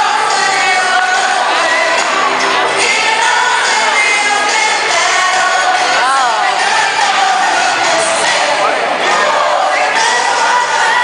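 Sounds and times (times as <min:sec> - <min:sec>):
pop song with singing: 0:00.0 - 0:11.0.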